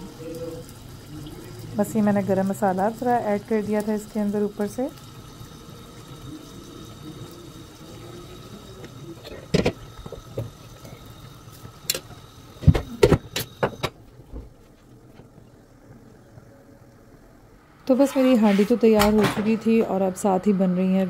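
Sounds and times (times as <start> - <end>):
low kitchen hum: 0.0 - 21.0.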